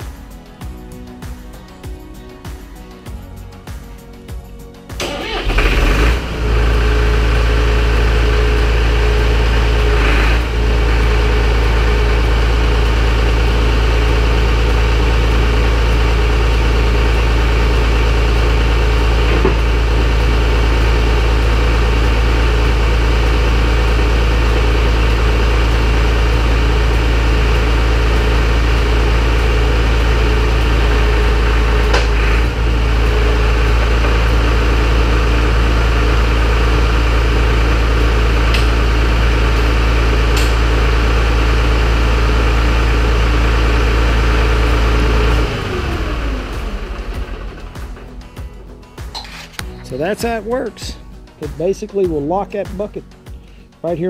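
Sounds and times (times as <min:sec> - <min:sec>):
tractor engine idling: 0:05.0 - 0:54.0.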